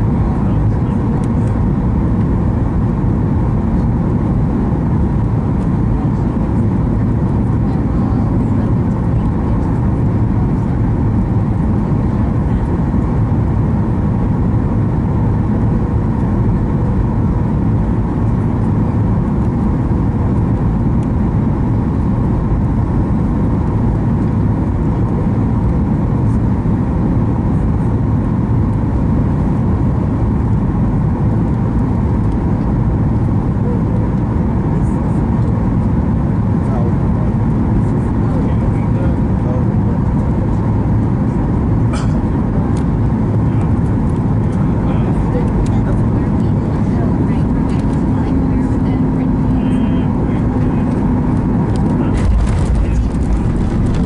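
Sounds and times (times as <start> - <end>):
aircraft cabin rumble: 0.0 - 54.0
faint constant hum: 0.0 - 54.0.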